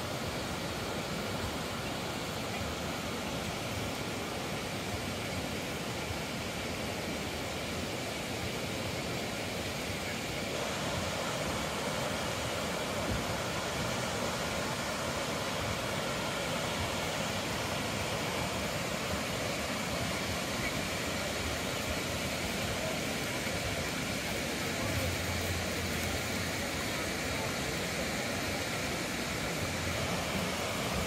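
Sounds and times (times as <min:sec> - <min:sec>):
waterfall rushing roar: 0:00.0 - 0:31.0.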